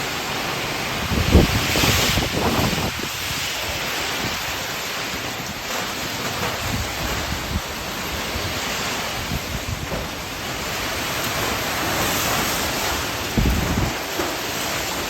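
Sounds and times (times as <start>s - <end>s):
heavy rain: 0.0s - 15.0s
wind buffeting microphone: 0.9s - 14.8s
low thunder rumbling: 1.0s - 14.1s.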